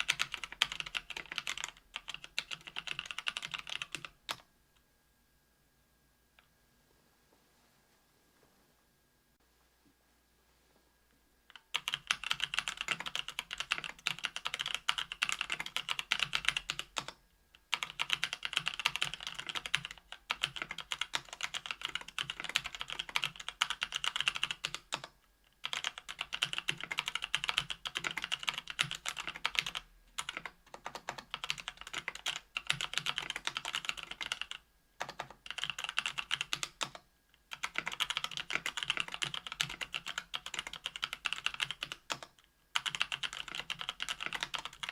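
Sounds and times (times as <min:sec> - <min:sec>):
fast typing on keyboard: 0:00.0 - 0:04.5, 0:11.5 - 0:44.9.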